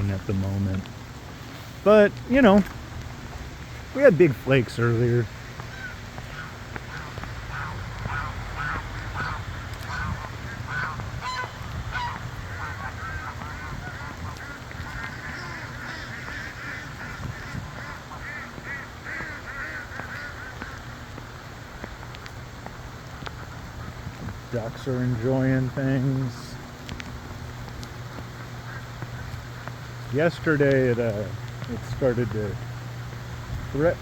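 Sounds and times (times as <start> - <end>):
steady low hum: 0.0 - 34.0
ducks quacking: 3.4 - 22.4, 23.0 - 26.5, 27.9 - 32.6.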